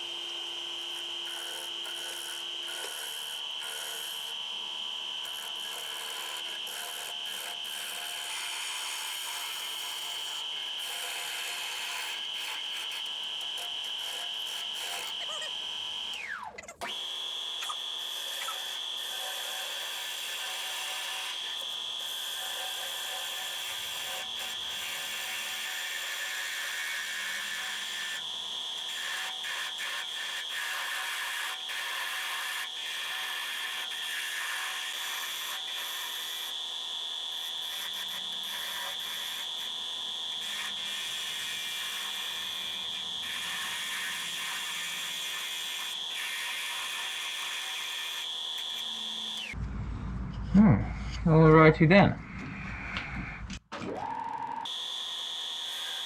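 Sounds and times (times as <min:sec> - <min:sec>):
wood lathe whining: 0:00.0 - 0:49.8, 0:52.2 - 0:56.0.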